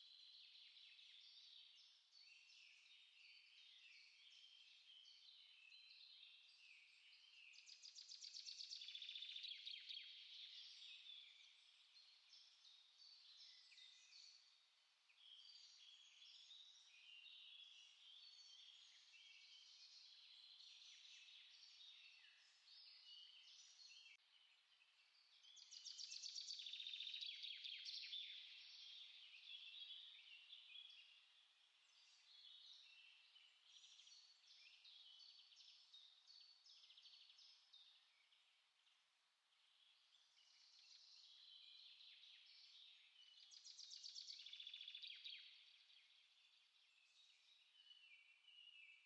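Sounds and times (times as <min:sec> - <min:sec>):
songbirds singing and chirping: 0:00.0 - 0:49.0.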